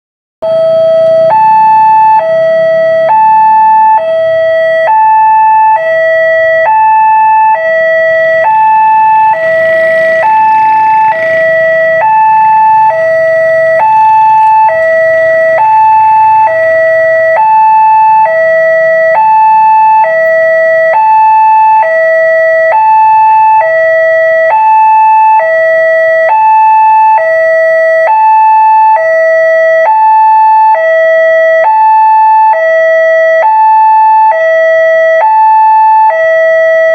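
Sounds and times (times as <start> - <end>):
two-tone crossing alarm: 0.4 - 36.9.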